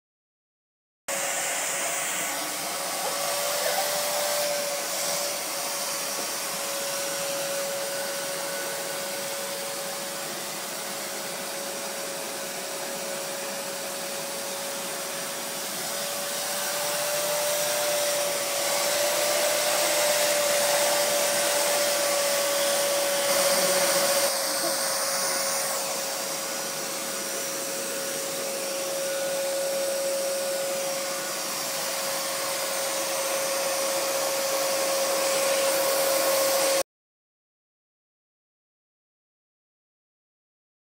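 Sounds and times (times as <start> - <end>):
vacuum cleaner running: 1.1 - 36.9.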